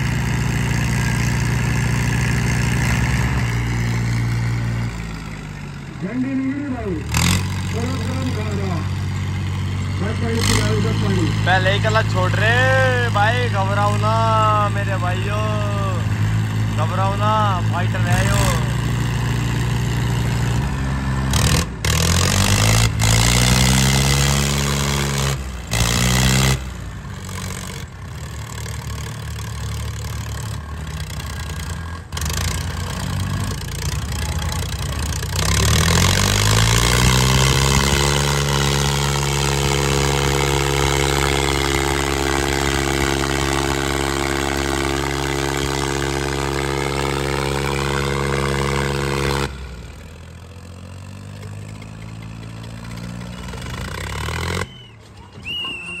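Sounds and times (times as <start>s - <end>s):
diesel tractor engines straining: 0.0s - 56.0s.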